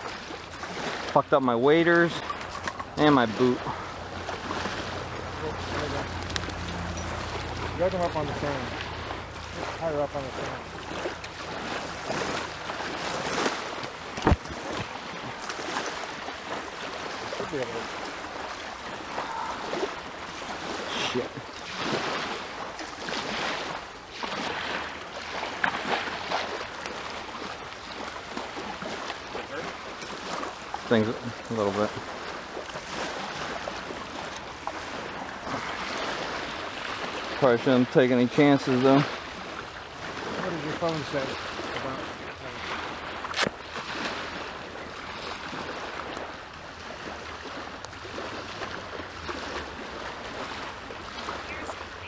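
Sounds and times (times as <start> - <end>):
small waves washing on shore: 0.0 - 52.0.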